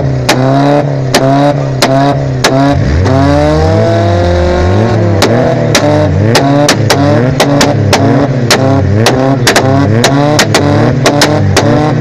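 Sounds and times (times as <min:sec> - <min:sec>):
car engine revving: 0:00.0 - 0:12.0
exhaust bangs: 0:00.0 - 0:12.0.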